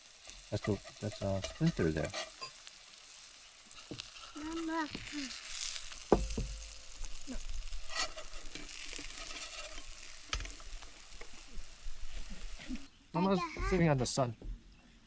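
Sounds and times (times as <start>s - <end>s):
pancake sizzling in frying pan: 0.0s - 12.9s.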